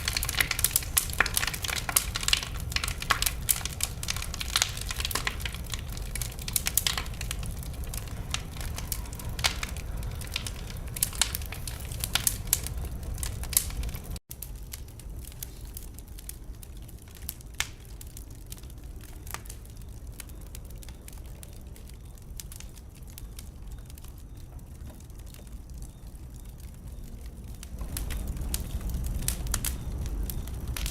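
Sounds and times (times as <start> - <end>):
low rumble of flames: 0.0 - 30.9
wood fire crackling and popping: 0.0 - 30.9.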